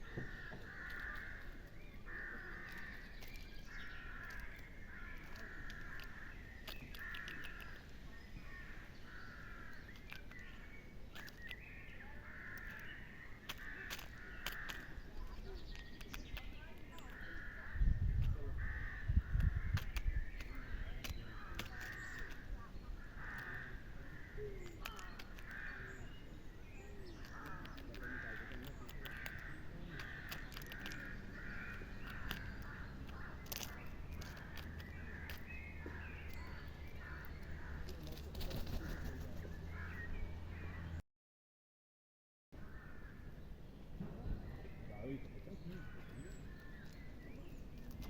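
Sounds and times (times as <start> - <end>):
sharp clicks: 0.0 - 39.5, 45.8 - 48.0
raven calling: 0.0 - 40.1.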